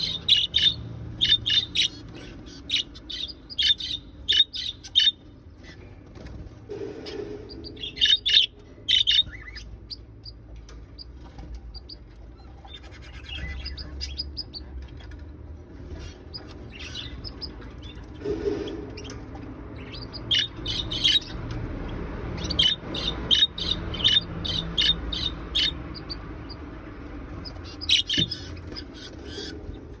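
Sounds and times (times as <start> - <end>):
budgerigar chirping and warbling: 0.0 - 5.8, 7.5 - 10.4, 11.7 - 14.6, 15.9 - 19.2, 19.8 - 21.5, 22.3 - 30.0.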